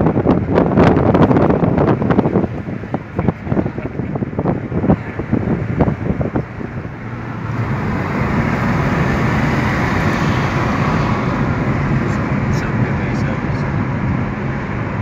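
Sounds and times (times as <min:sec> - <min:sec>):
road and tyre noise: 0:00.0 - 0:15.0
wind buffeting microphone: 0:00.0 - 0:15.0.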